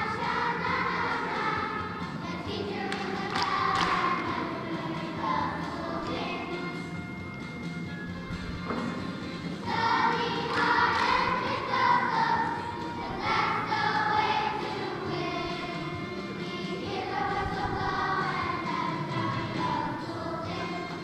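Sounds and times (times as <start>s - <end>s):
children's choir singing: 0.0s - 7.6s, 8.7s - 21.0s.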